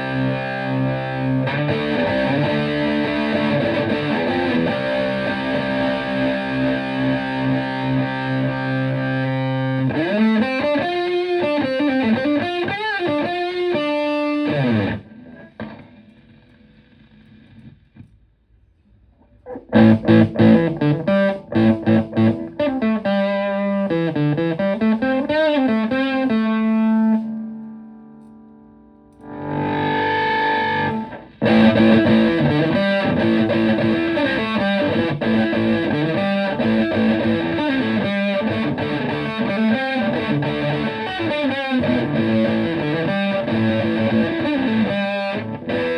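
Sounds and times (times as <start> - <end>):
distorted electric guitar: 0.0 - 18.2, 19.0 - 45.9.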